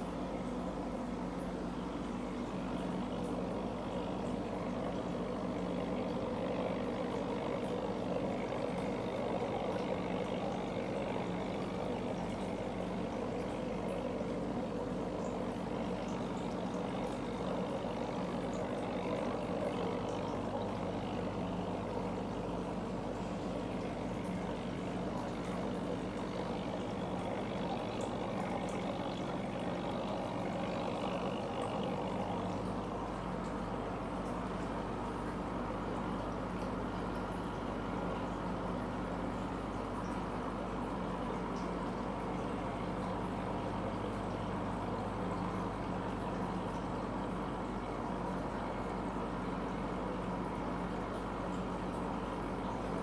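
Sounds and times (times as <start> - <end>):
air pump humming: 0.0 - 53.0.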